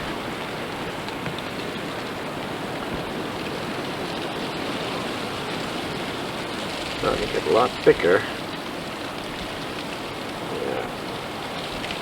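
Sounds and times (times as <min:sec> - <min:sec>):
wind blowing steadily: 0:00.0 - 0:12.0.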